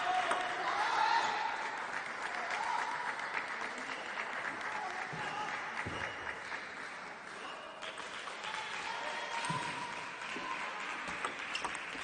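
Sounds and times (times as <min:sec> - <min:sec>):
applause and cheering: 0:00.0 - 0:12.0.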